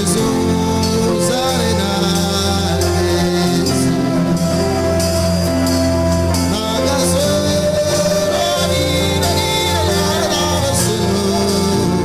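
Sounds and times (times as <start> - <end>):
person singing long notes: 0.0 - 12.0
slow gospel worship music: 0.0 - 12.0.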